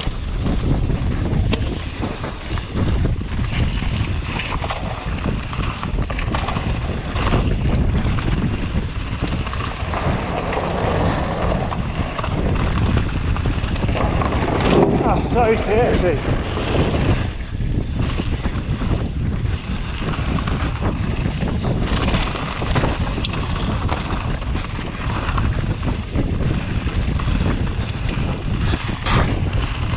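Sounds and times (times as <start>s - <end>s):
bike knocks and rattles: 0.0s - 29.9s
steady rumble of bike: 0.0s - 29.9s
wind buffeting microphone: 0.0s - 29.9s.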